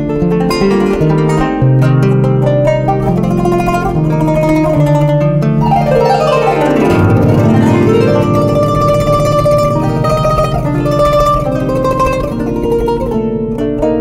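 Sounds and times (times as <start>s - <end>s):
plucked zither: 0.0s - 14.0s.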